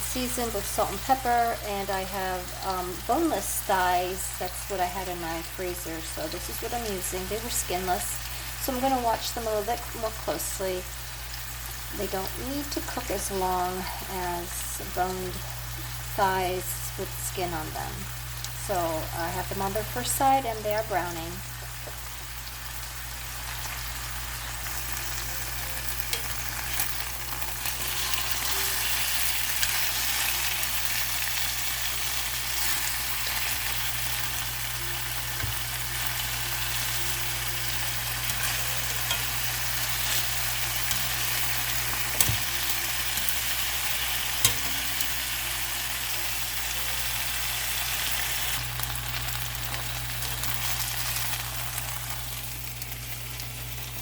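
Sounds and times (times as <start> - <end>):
chicken sizzling in a pan: 0.0 - 54.0.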